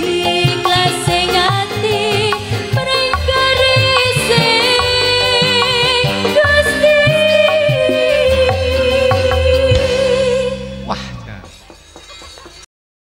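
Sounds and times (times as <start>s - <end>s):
woman singing with vibrato: 0.0s - 10.9s
folk ensemble playing: 0.0s - 12.6s.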